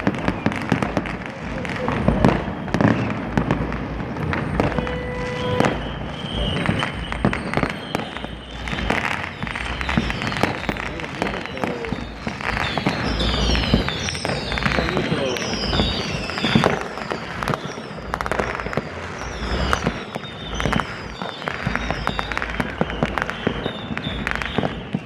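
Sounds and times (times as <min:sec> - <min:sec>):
falling firework whistles: 0:00.0 - 0:25.0
fireworks bangs and crackles: 0:00.0 - 0:25.0.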